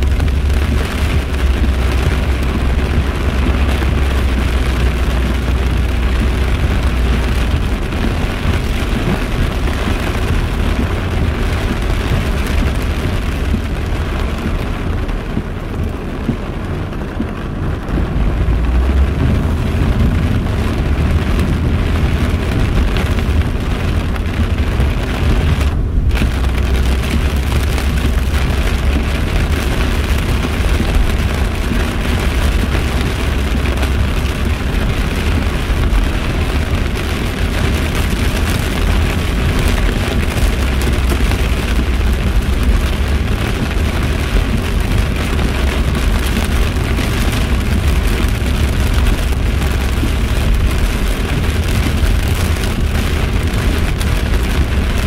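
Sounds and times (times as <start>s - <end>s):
heavy rain on car roof: 0.0s - 55.0s
steady low rumble: 0.0s - 55.0s.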